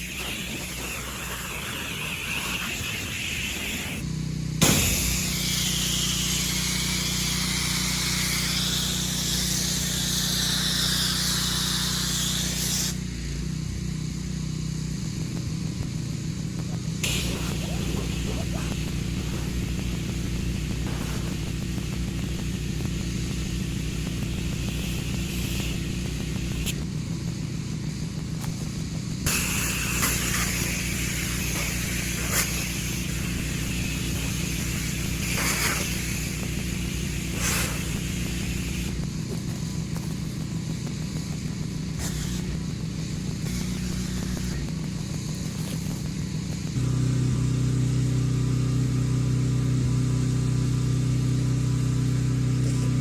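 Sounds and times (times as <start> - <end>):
water spray hissing: 0.0 - 13.4, 15.5 - 26.9, 28.4 - 46.8
gas engine running: 0.0 - 53.0.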